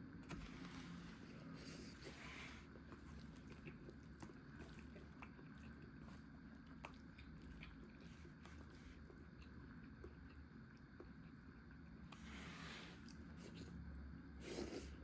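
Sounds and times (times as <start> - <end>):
faint chewing: 0.1 - 15.0.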